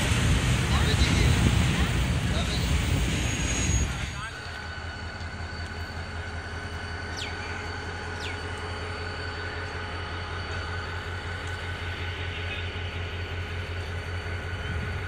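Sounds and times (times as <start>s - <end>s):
train running with low drone: 0.0s - 15.0s.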